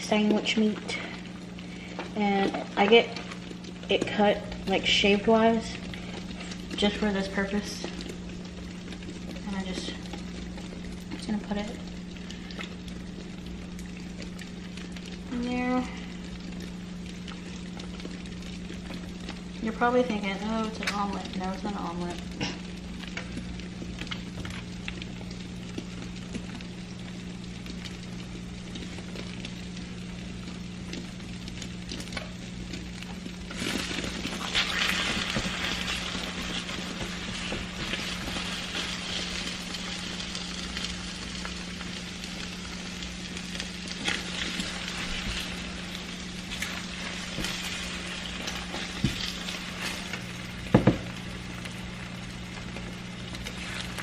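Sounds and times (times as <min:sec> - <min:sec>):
food sizzling in a frying pan: 0:00.0 - 0:54.0
low steady hum: 0:00.0 - 0:54.0.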